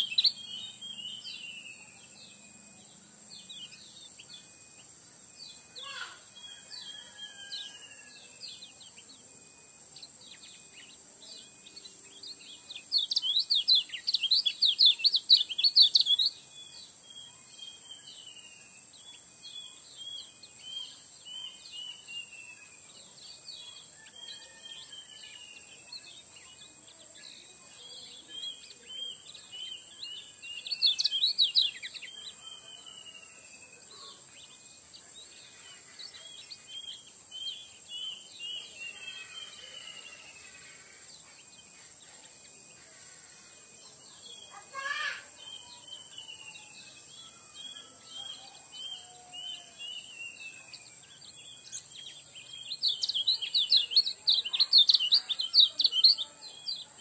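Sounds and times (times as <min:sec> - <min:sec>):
bird rapid chattering song: 0:00.0 - 0:08.0, 0:09.9 - 0:42.6, 0:43.9 - 0:57.0.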